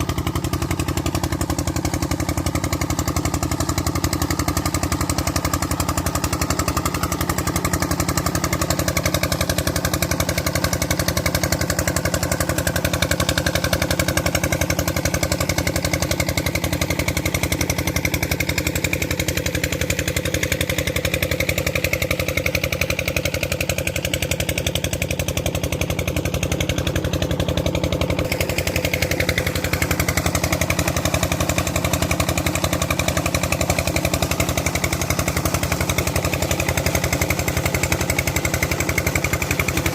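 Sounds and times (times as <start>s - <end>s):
diesel pump engine knocking: 0.0s - 39.9s.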